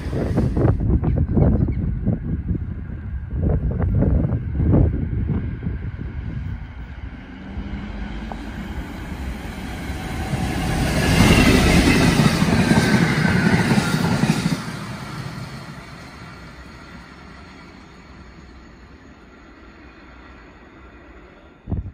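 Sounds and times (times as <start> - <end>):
train wheel noise: 0.0 - 21.8
diesel locomotive engine: 0.0 - 21.9.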